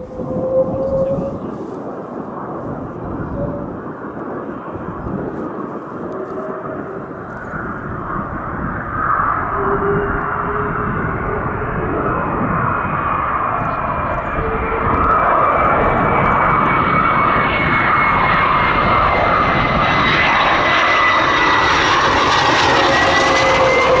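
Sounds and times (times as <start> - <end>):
high whistling tone falling: 0.0 - 1.6, 5.2 - 24.0
jet engine roar with howl: 0.0 - 24.0.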